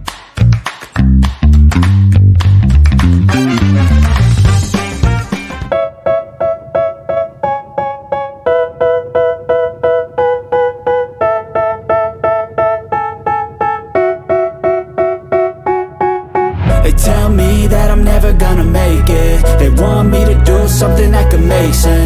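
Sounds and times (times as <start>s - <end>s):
keyboard playing repeated chords: 3.2s - 22.0s.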